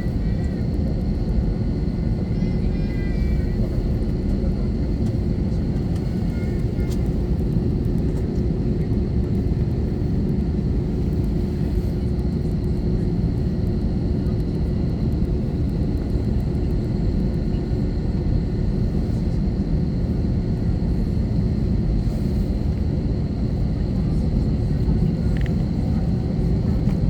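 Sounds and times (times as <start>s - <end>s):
jet engines idling low rumble: 0.0s - 27.0s.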